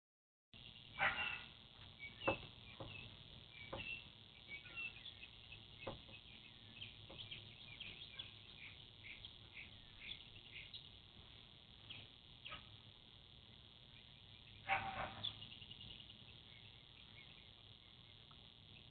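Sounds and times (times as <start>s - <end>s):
birds chirping: 0.6s - 18.9s.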